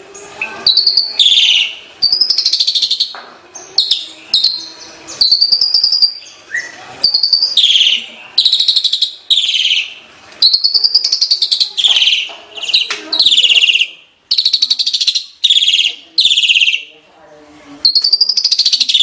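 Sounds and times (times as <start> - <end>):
starling singing harsh rattling phrases: 0.0 - 17.0, 17.8 - 19.0.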